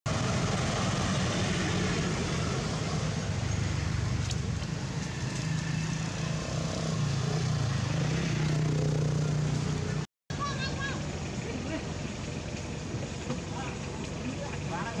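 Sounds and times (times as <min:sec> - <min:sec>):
low engine hum: 0:00.1 - 0:15.0.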